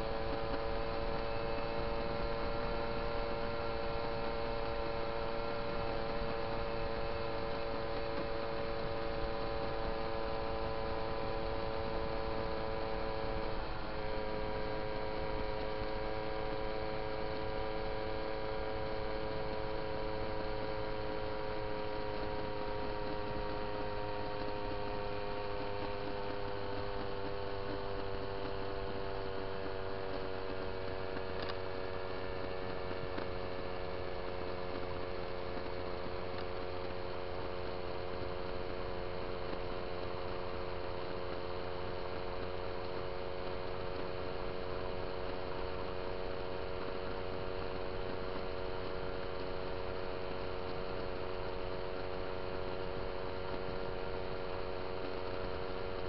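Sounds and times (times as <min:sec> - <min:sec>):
moped engine droning: 0:00.0 - 0:56.0.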